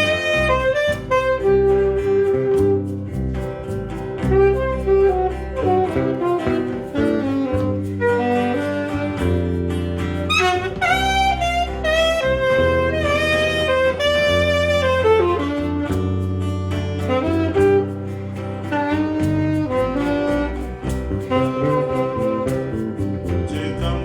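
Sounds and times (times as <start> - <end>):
low bass line: 0.0 - 24.0
saxophone jazzy melody: 0.0 - 24.0.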